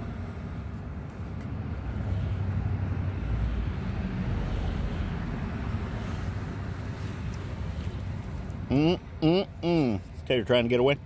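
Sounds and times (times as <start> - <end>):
highway traffic rumble: 0.0 - 11.0.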